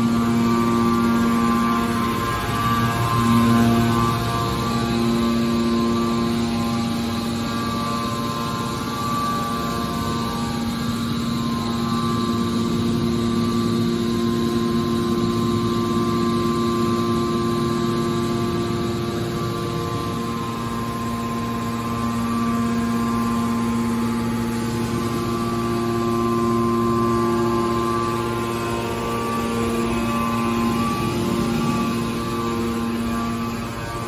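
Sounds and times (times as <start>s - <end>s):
can baler motor humming: 0.0s - 34.0s.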